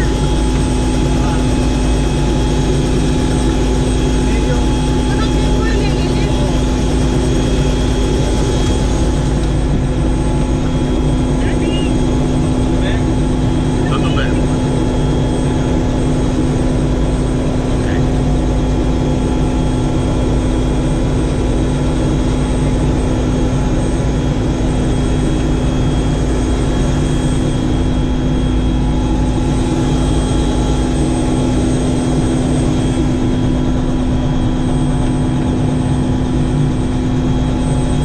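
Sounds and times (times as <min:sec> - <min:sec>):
helicopter rotor and engine drone: 0:00.0 - 0:38.0.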